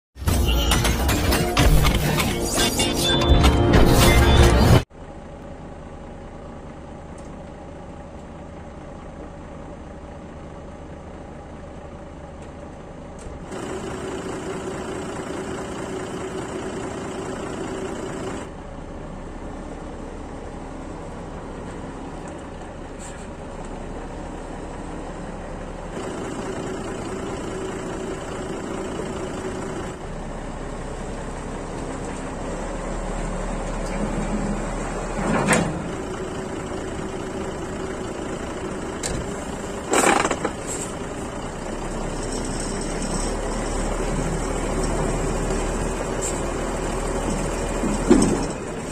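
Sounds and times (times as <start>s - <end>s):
diesel truck engine idling: 0.3s - 48.9s.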